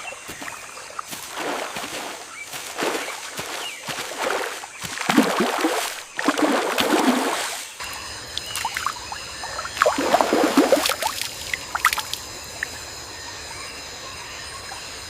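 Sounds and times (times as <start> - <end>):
river water gurgling and splashing: 0.0 - 12.9.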